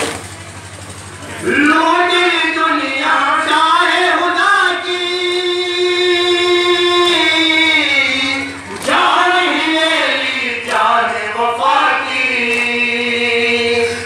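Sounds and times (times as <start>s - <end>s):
men chanting a lament in chorus: 1.4s - 14.0s.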